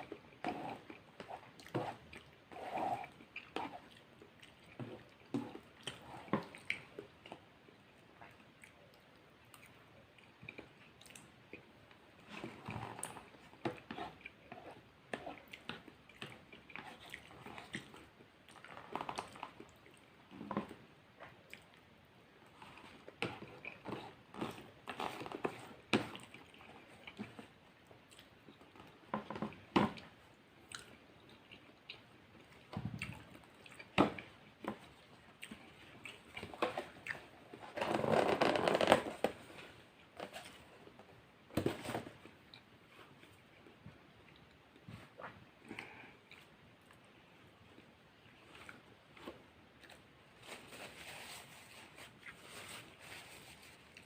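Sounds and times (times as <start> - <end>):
person chewing food: 0.0 - 41.1, 41.9 - 50.1.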